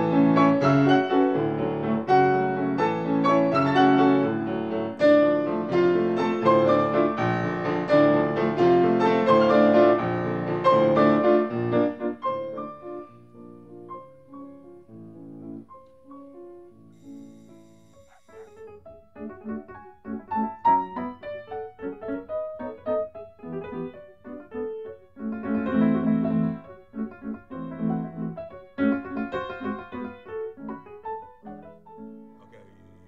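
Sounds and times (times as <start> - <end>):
grand piano classical music: 0.0 - 33.0.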